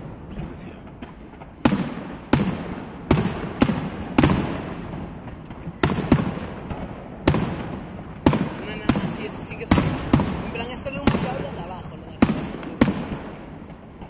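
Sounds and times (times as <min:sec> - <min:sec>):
fireworks booming: 0:00.0 - 0:14.0.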